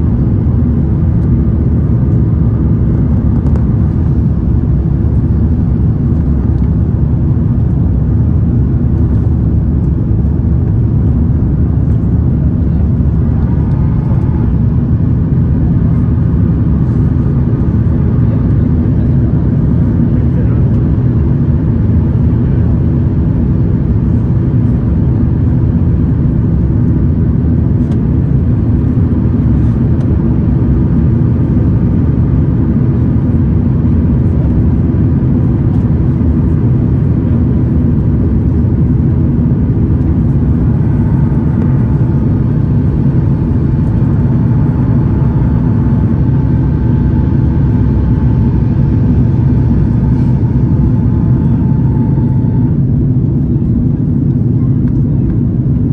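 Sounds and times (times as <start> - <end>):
airplane cabin engine rumble: 0.0 - 55.9
faint steady whine: 0.0 - 55.9.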